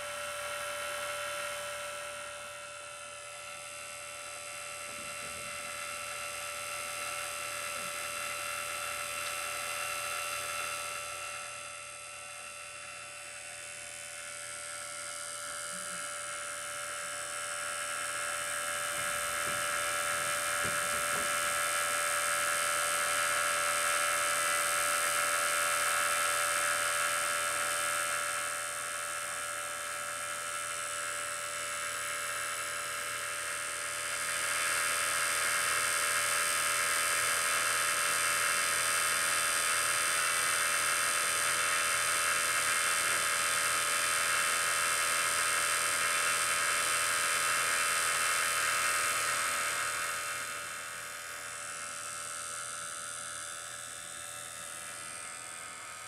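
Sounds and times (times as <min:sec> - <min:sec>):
vacuum pump motor hum and hiss: 0:00.0 - 0:56.0.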